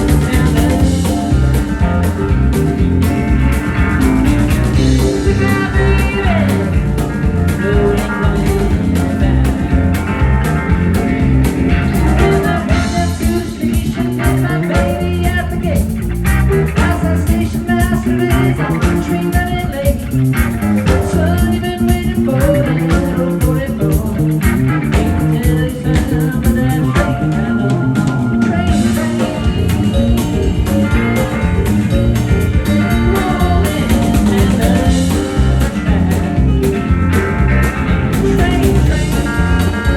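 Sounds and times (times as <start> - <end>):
band playing instrumental: 0.0 - 39.9
bass and drum kit beat: 0.0 - 39.9
electric guitar: 0.0 - 39.9.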